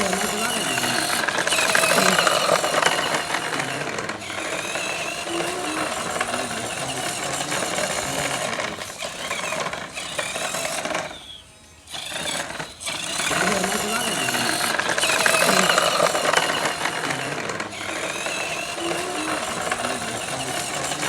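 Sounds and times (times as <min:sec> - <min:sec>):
tractor motor rattling under load: 0:00.0 - 0:21.0.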